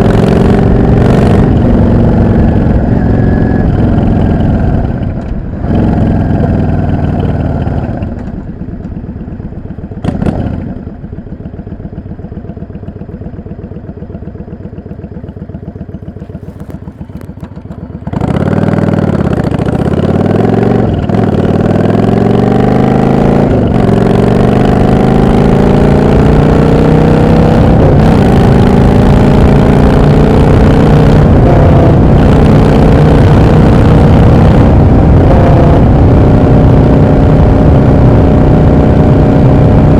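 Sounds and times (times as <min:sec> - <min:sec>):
motorcycle engine idling and accelerating: 0:00.0 - 0:39.9.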